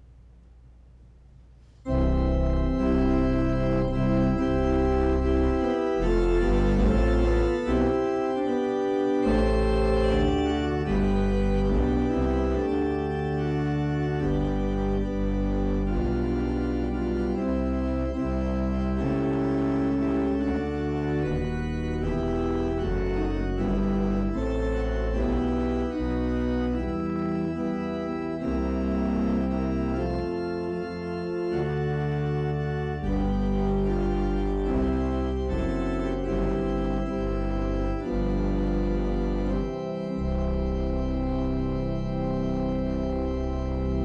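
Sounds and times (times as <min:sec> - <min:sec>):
organ playing chords: 0:01.8 - 0:44.0.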